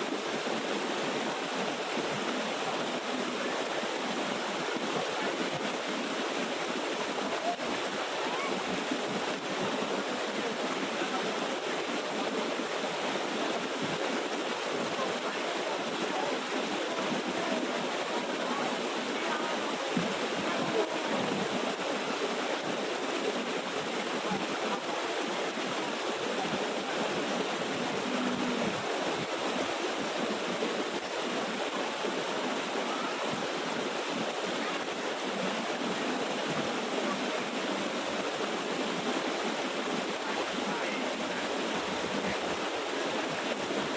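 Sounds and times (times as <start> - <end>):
waterfall rushing over rocks: 0.0 - 43.9.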